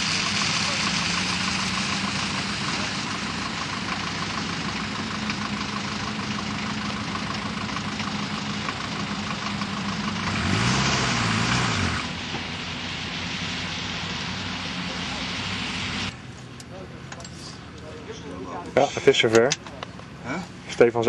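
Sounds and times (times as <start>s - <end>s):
engine idling and revving: 0.0s - 21.0s.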